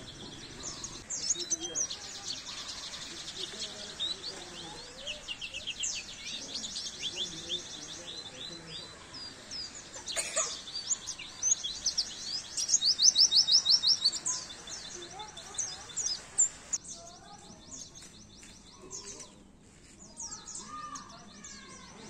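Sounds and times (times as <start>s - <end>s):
bird chirping song: 0.0s - 22.0s.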